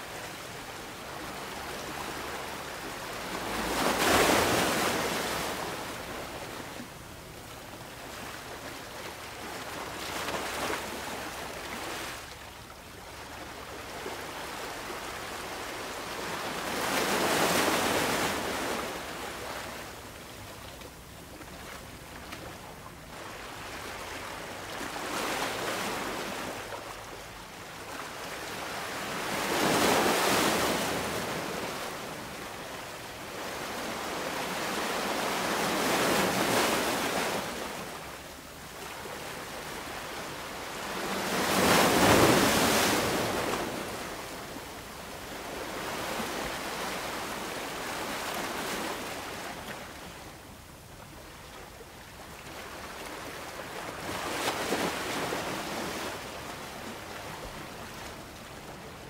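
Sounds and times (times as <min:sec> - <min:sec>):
ocean waves breaking on beach: 0:00.0 - 0:20.4, 0:22.6 - 0:59.0.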